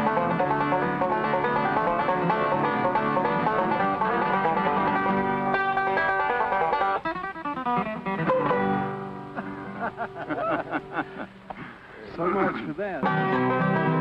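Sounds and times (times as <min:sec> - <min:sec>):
banjo: 0:00.0 - 0:11.2, 0:12.3 - 0:14.0
bluegrass music: 0:00.0 - 0:14.0
picked guitar: 0:00.0 - 0:14.0.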